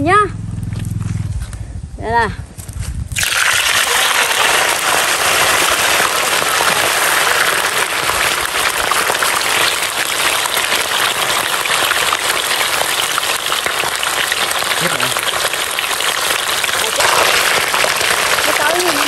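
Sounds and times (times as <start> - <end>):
chicken wings frying in oil: 3.2 - 19.0.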